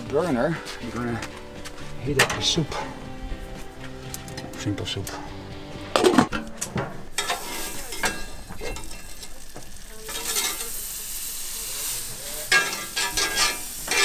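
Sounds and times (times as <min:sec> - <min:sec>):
gas flame hissing: 0:01.8 - 0:14.0.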